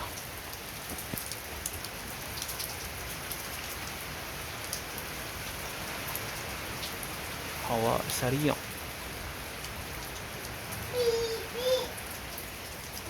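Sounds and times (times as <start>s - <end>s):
heavy rain in strong wind: 0.0s - 13.0s.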